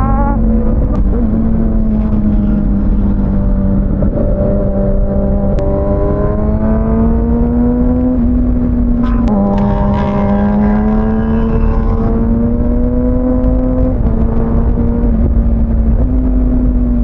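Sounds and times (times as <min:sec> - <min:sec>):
motorcycle engine cruising: 0:00.0 - 0:17.0
wind rush: 0:00.4 - 0:17.0.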